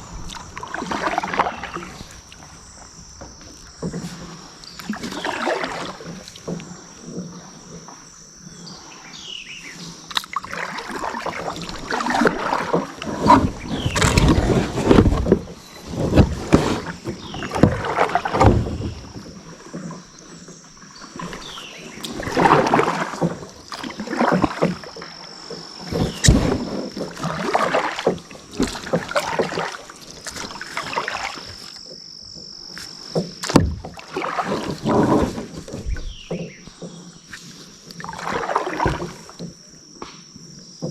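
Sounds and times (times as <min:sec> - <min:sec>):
paddle strokes splashing: 0:00.0 - 0:40.9.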